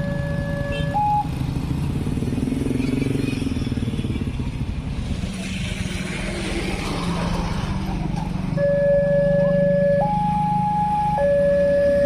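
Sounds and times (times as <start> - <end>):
motorcycle engines running: 0.0 - 12.0
road noise: 0.0 - 12.0.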